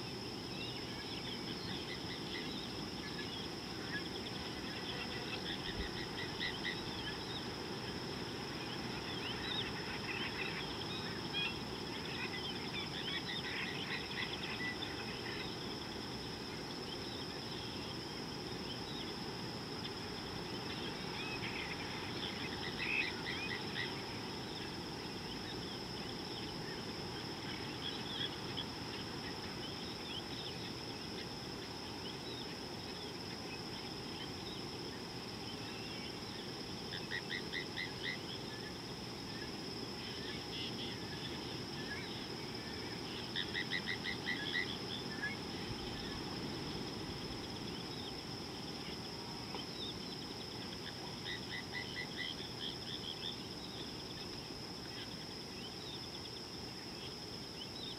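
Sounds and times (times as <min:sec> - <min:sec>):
insect drone: 0:00.0 - 0:57.9.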